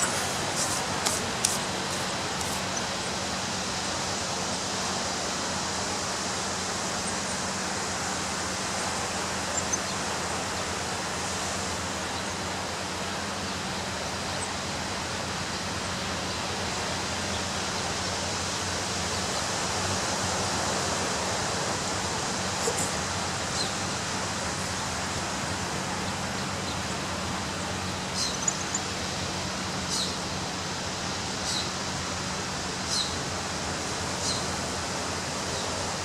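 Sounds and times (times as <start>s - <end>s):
ocean surf roar: 0.0s - 36.0s.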